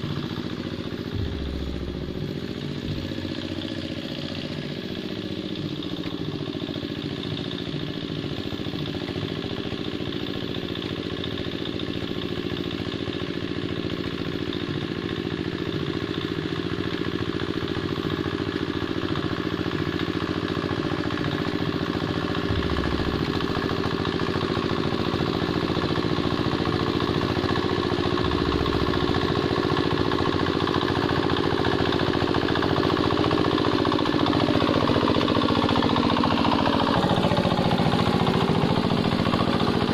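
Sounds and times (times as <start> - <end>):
hand tractor diesel engine: 0.0 - 39.9.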